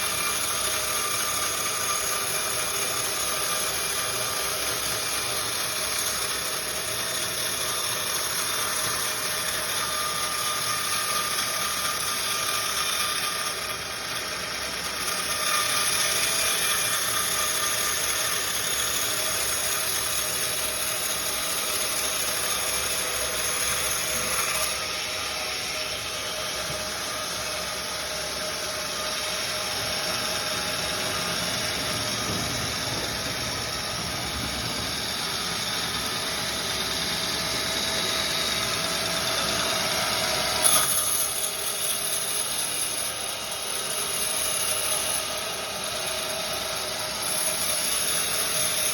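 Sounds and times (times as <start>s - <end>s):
sawmill machinery drone: 0.0s - 48.9s.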